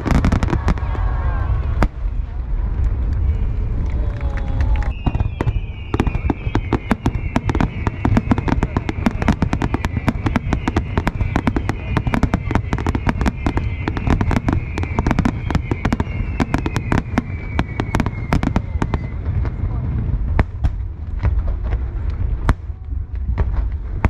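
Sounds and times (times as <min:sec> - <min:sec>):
fireworks crackling and booming: 0:00.0 - 0:24.0.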